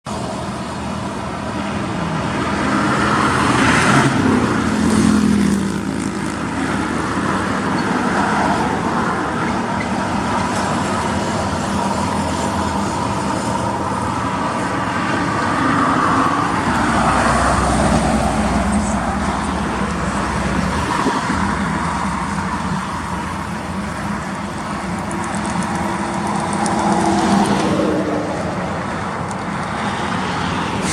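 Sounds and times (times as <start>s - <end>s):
road traffic rumble: 0.0s - 30.9s.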